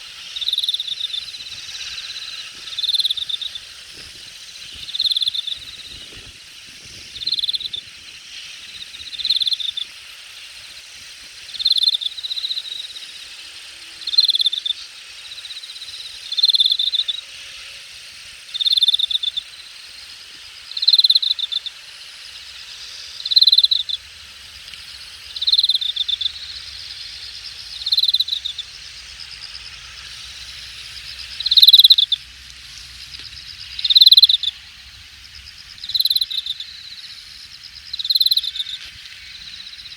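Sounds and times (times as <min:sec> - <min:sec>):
high-pitched insect chorus: 0:00.0 - 0:39.9
insect pulsed call: 0:00.0 - 0:39.9.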